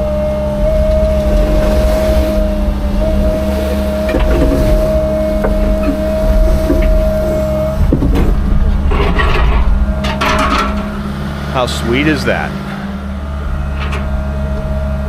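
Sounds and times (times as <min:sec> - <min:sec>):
heavy machine engine running: 0:00.0 - 0:15.0
high whine: 0:00.0 - 0:15.0.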